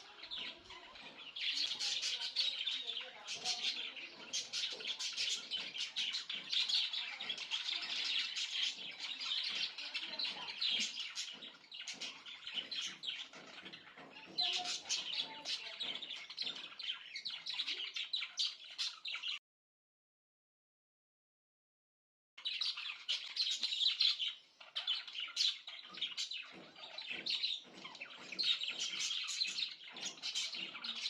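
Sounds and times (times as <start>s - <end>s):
budgerigars chirping and chattering: 0.0s - 19.4s, 22.4s - 31.0s.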